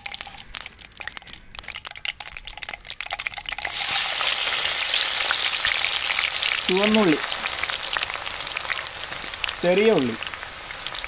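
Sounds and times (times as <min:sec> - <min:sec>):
oil sizzling: 0:00.0 - 0:11.0
seeds crackling and popping in oil: 0:00.0 - 0:11.0.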